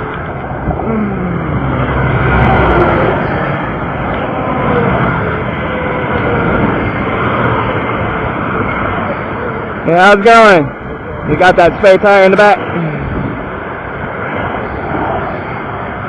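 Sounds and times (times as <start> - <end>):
vehicle passing by: 0.0 - 9.9, 12.6 - 16.0
highway traffic roar: 0.0 - 16.0.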